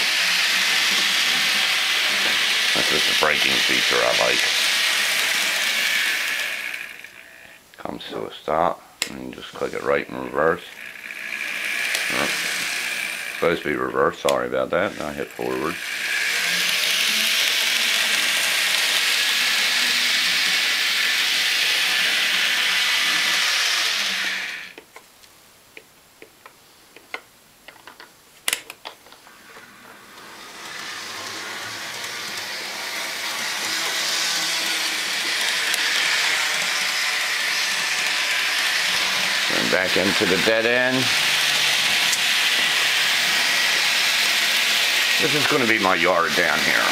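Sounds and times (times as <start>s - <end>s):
model train motor whirring: 0.0s - 7.6s, 9.0s - 24.8s, 29.3s - 46.9s.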